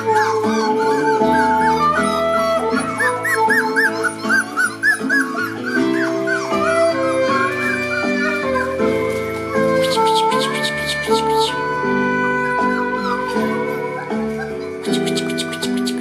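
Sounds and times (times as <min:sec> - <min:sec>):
puppies whimpering and yipping: 0:00.0 - 0:16.0.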